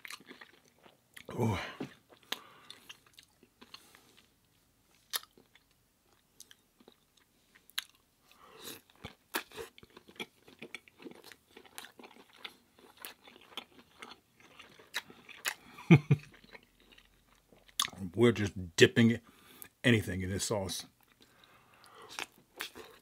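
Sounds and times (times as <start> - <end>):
person chewing crisp food: 0.0 - 18.0, 21.0 - 23.0.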